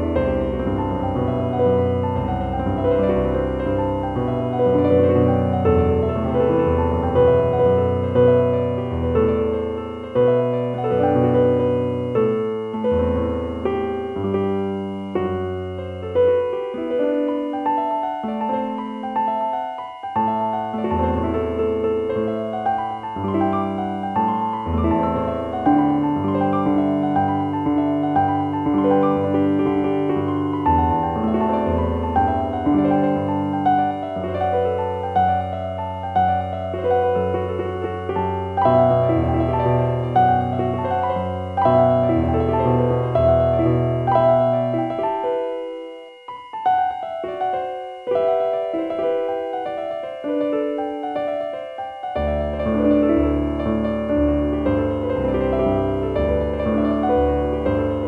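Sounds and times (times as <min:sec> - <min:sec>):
slow gentle piano music: 0:00.0 - 0:58.0.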